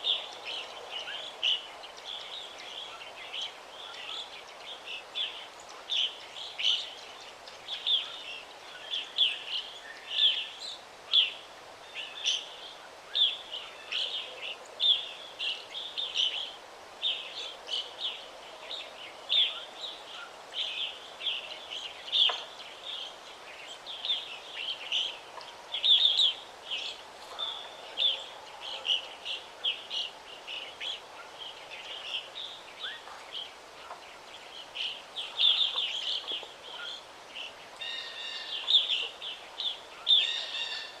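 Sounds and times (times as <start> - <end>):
forest ambience hiss: 0.0 - 41.0
songbirds chirping: 0.0 - 41.0.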